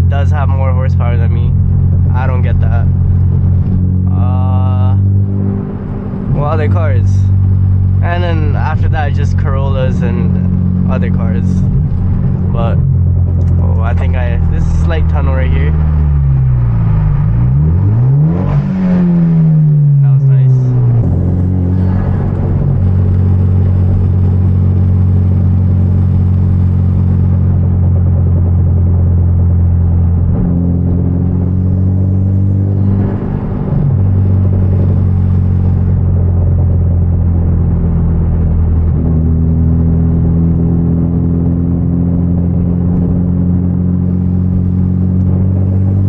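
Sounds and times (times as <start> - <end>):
car engine and exhaust droning: 0.0 - 46.0.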